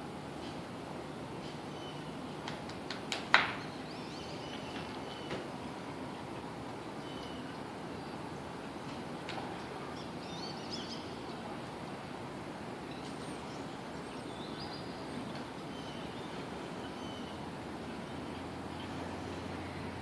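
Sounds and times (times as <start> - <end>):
outdoor background noise: 0.0 - 20.0
small birds chirping: 1.4 - 2.7, 3.4 - 11.7, 12.8 - 20.0.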